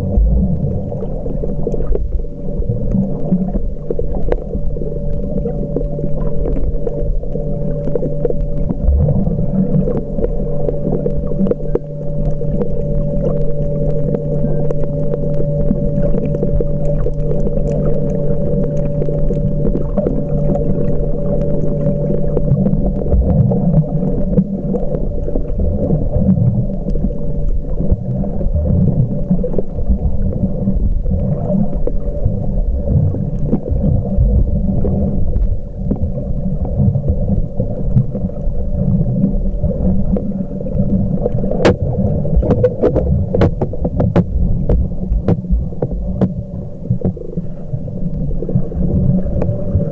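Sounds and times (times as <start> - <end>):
steady hum: 0.0 - 49.9
underwater rumble of moving water: 0.0 - 49.9.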